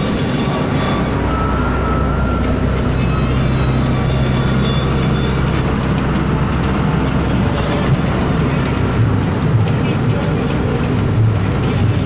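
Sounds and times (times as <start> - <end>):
bus body rattling: 0.0 - 12.0
bus engine drone: 0.0 - 12.0.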